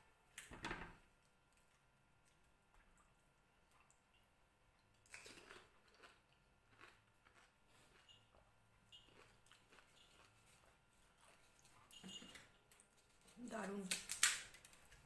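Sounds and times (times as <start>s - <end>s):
crunching and chewing crisp shells: 1.4s - 15.0s.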